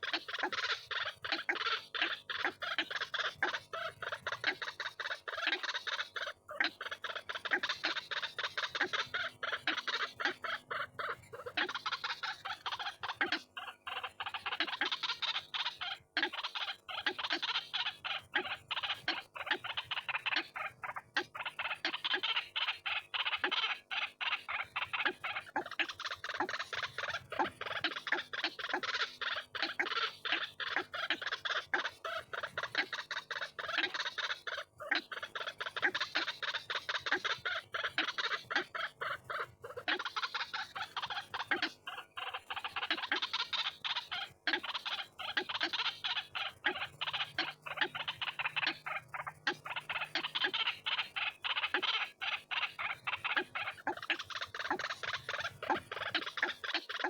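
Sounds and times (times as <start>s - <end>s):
bird calling rapid repeated notes: 0.0s - 57.0s.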